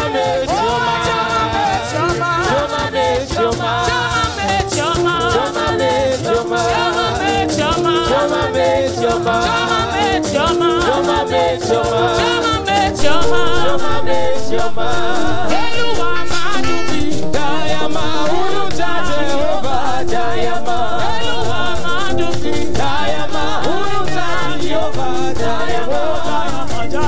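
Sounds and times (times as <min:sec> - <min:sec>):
band playing: 0:00.0 - 0:27.0
shaker: 0:00.0 - 0:27.0
voices singing gospel: 0:00.0 - 0:27.0.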